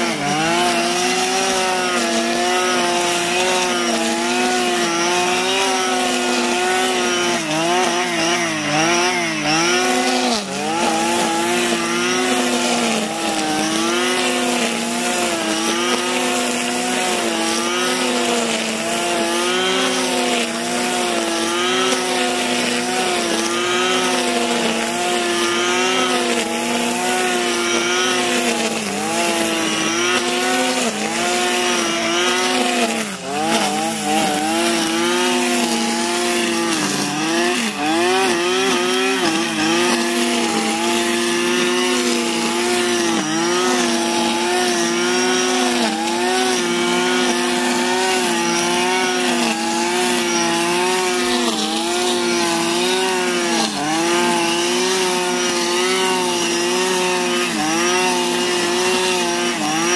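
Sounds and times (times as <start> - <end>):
brushcutter engine cutting grass: 0.0 - 59.9.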